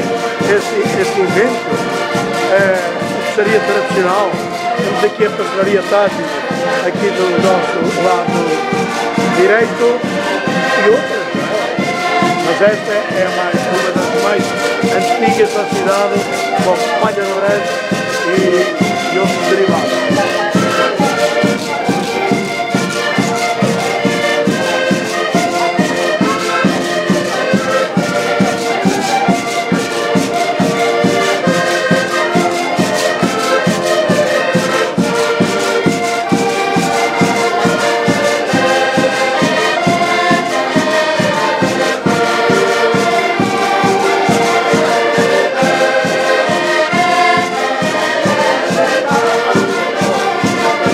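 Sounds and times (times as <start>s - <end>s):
button accordions playing folk tune: 0.0s - 50.9s.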